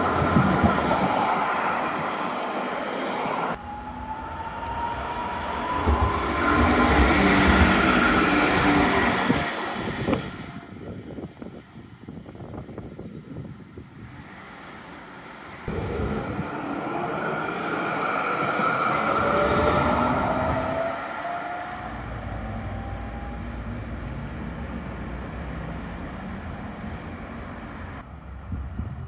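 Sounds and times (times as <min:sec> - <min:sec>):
tram wheel-on-rail noise: 0:00.0 - 0:29.0.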